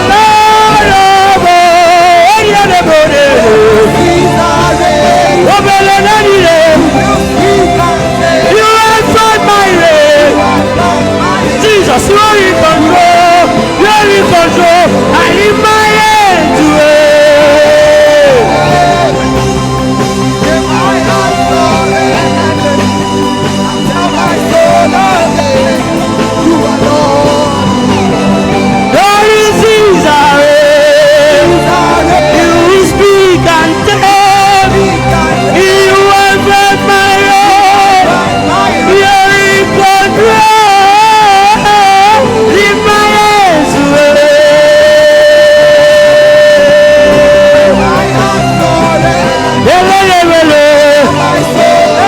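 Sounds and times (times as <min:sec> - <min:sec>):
keyboard chords: 0:00.0 - 0:52.0.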